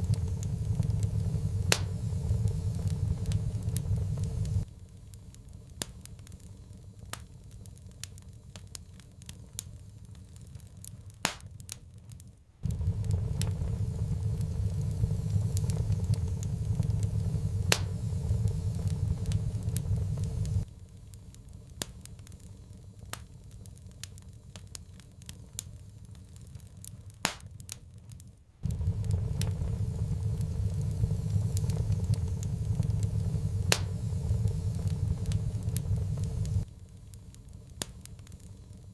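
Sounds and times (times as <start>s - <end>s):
low steady rumble: 0.0s - 11.2s, 12.4s - 27.2s, 27.9s - 38.9s
wood fire crackling and popping: 0.0s - 38.9s.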